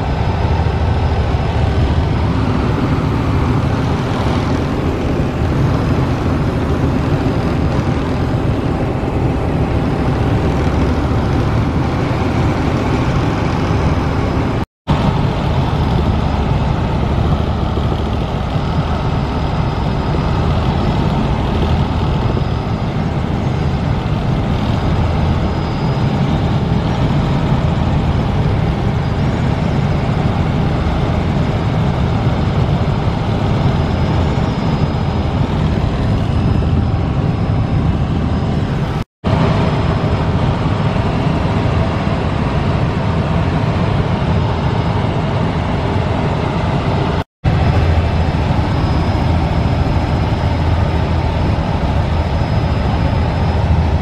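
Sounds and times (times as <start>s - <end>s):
helicopter drone from cabin: 0.0s - 54.0s.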